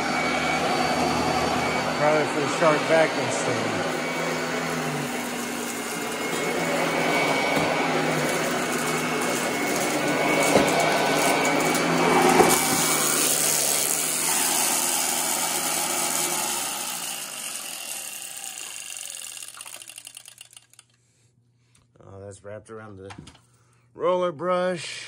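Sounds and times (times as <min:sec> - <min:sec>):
vacuum cleaner running over carpet: 0:00.0 - 0:20.4.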